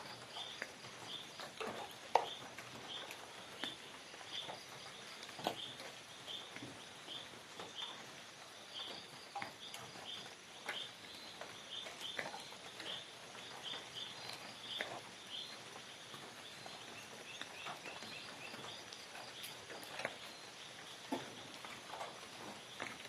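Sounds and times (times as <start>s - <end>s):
faint insect drone: 0.0s - 23.0s.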